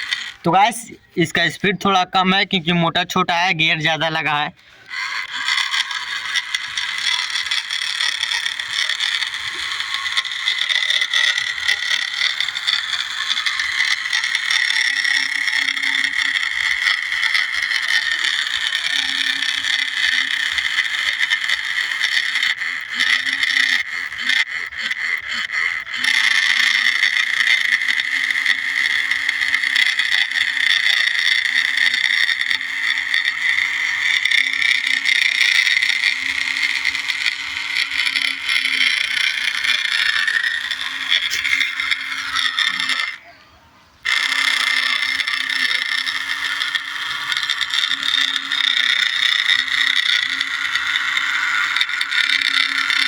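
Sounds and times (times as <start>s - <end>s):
toy tractor motor whining: 0.0s - 53.0s.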